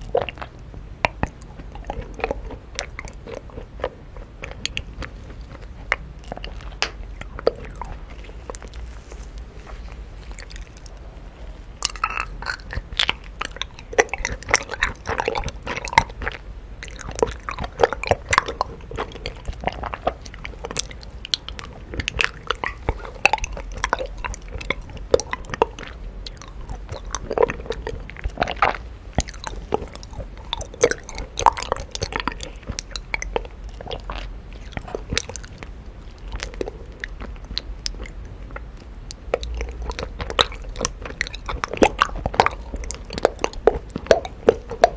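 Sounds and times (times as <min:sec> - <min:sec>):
mouth clicking sounds: 0:00.0 - 0:44.9
person chewing honeycomb: 0:00.0 - 0:44.9.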